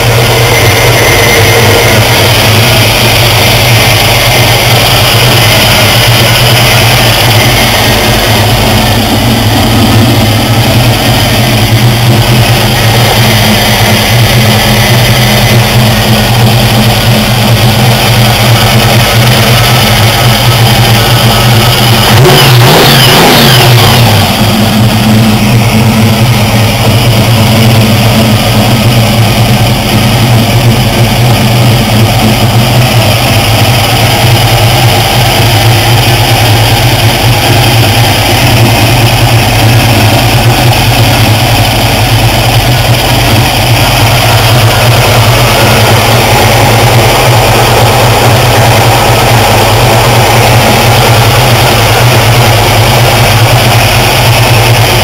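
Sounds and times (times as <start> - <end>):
engine revving: 0.0 - 55.0
supercharged car engine idling: 0.0 - 55.0.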